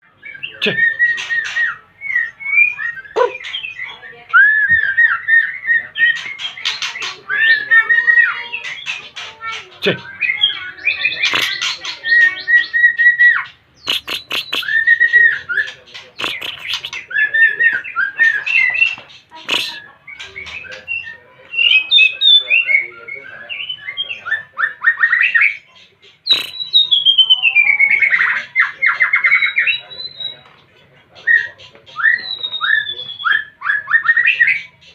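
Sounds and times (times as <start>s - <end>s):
songbird singing whistled phrases: 0.1s - 9.0s, 9.9s - 25.7s, 26.3s - 30.5s, 31.2s - 34.8s.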